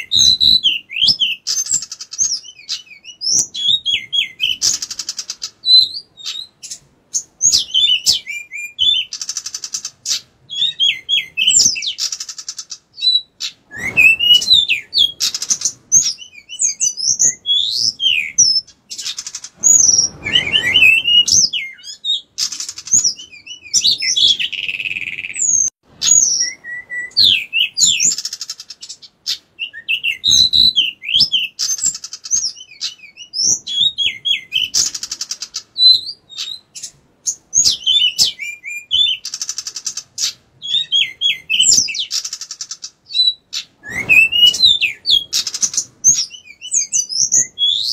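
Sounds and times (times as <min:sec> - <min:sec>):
bird song with whistles and trills: 0:00.0 - 0:47.9.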